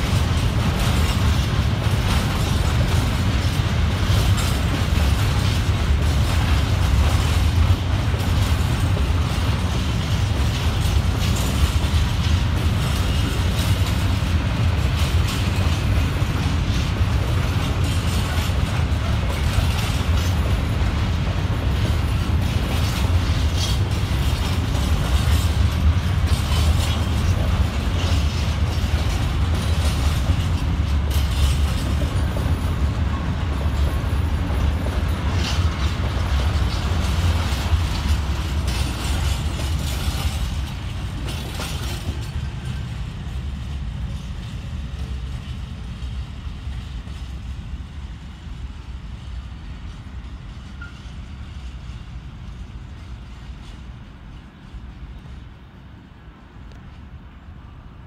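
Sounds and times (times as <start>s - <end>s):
wheels clattering over rail joints: 0.0s - 47.8s
freight train rumbling past: 0.0s - 58.0s.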